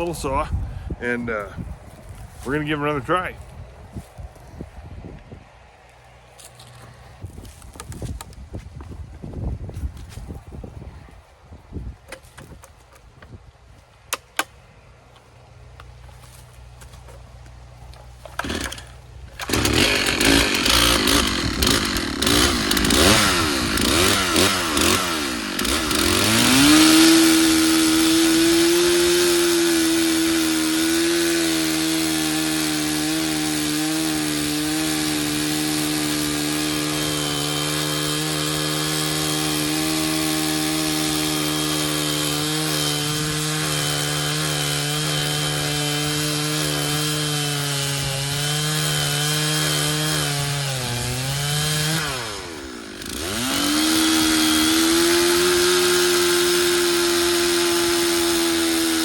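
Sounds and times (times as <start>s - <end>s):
chainsaw cutting wood: 0.0s - 3.5s, 5.8s - 8.4s, 14.1s - 59.0s.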